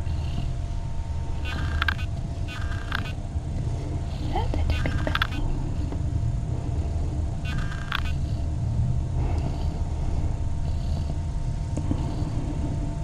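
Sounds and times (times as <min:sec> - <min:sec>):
cat purring: 0:01.3 - 0:13.0.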